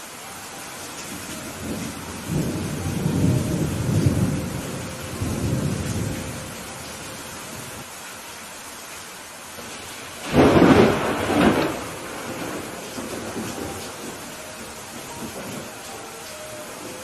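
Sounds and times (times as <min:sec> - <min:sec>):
steady rain falling: 0:00.0 - 0:17.0
thunder rumbling: 0:01.1 - 0:07.8, 0:09.6 - 0:17.0.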